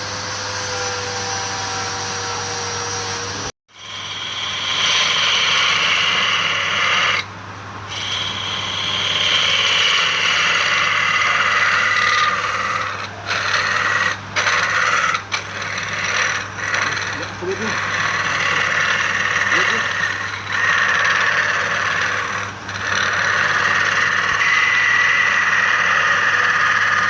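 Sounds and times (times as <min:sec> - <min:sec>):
lathe motor hum: 0:00.0 - 0:07.3, 0:07.9 - 0:27.0
turning tool scraping wood: 0:03.8 - 0:07.3, 0:07.9 - 0:27.0.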